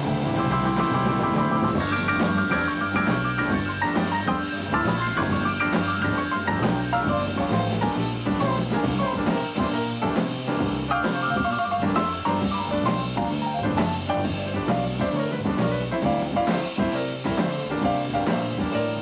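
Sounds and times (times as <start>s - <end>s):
double bass: 0.0s - 19.0s
drum kit with cymbals: 0.0s - 19.0s
piano: 0.0s - 19.0s.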